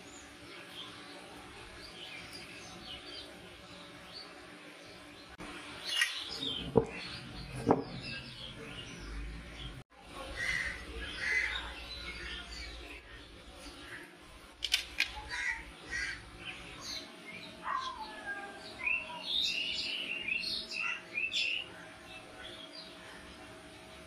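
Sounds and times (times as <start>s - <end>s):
birds calling and chirping: 0.0s - 24.0s.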